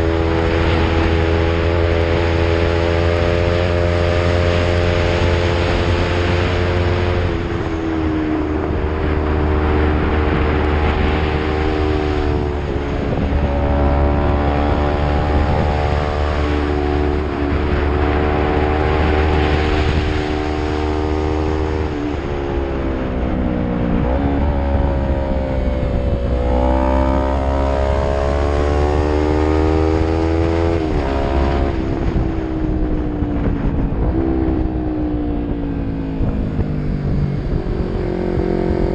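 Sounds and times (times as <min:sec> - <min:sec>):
motorcycle engine revving: 0:00.0 - 0:34.8, 0:35.4 - 0:38.9.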